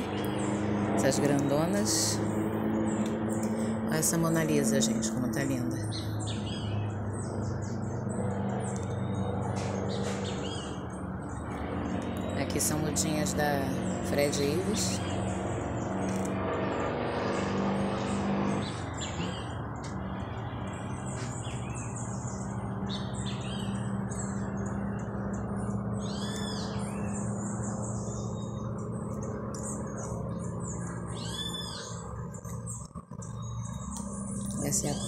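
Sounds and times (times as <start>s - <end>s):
small birds chirping: 0.0s - 35.0s
steady low hum: 0.0s - 35.0s.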